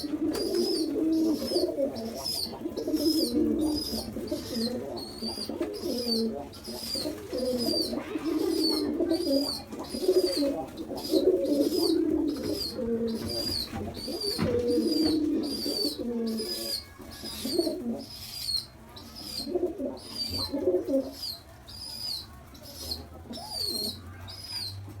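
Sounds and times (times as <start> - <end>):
low cooing sounds: 0.0 - 24.7
baby pigeon squeaking calls: 0.0 - 25.0.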